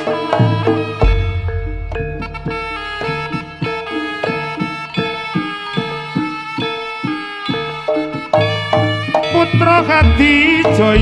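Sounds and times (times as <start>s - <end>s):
drum beat: 0.0s - 11.0s
ringing metallic tones: 0.4s - 11.0s.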